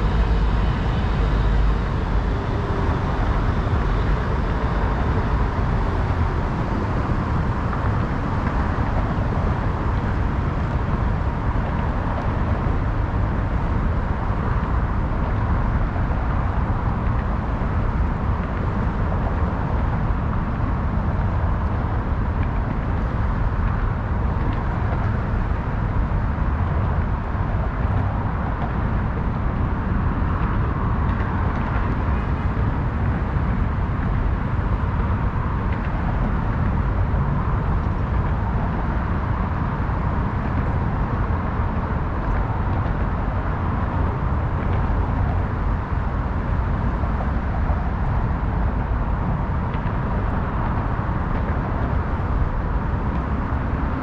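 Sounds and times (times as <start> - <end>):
city traffic noise: 0.0 - 54.0.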